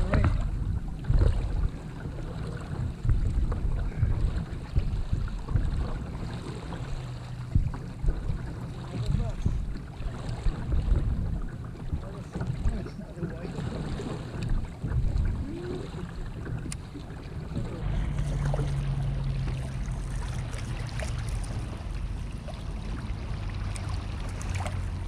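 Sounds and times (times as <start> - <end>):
low rumbling: 0.0 - 25.0
steady low hum: 0.0 - 25.0
water moving around a kayak: 0.0 - 25.0
wind on microphone: 0.0 - 25.0.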